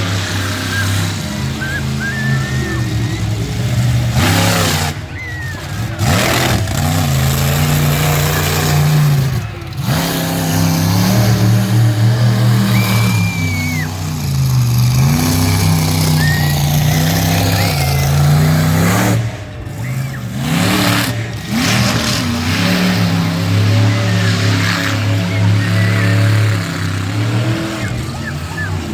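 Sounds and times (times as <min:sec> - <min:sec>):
monster truck engine revving: 0:00.0 - 0:28.9.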